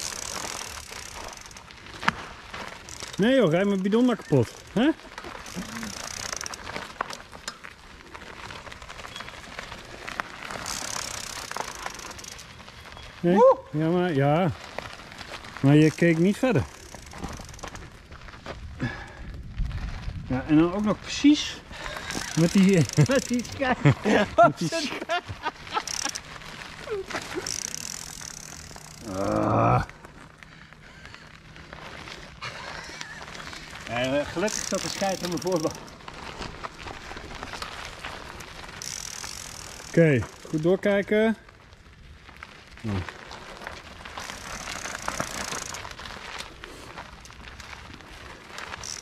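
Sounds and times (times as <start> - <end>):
gravel clicks and pops: 0.0 - 21.0, 25.3 - 49.0
bike tyres crunching on gravel: 0.0 - 49.0.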